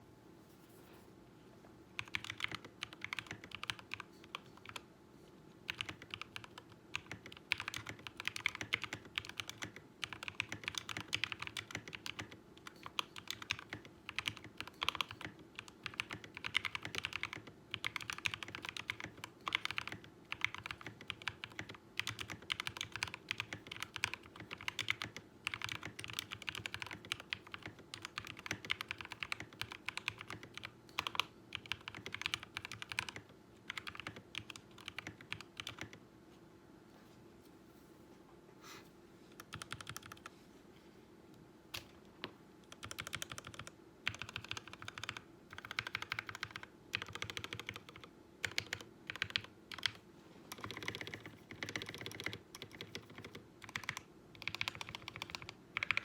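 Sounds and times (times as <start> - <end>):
mechanical keyboard typing: 2.0 - 4.8, 5.7 - 36.0, 39.4 - 40.3, 42.7 - 56.0.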